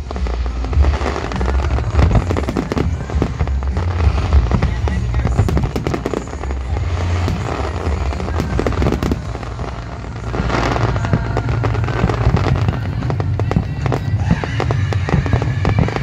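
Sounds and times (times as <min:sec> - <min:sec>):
firework shells bursting: 0:00.0 - 0:16.0
low rumble: 0:00.0 - 0:16.0.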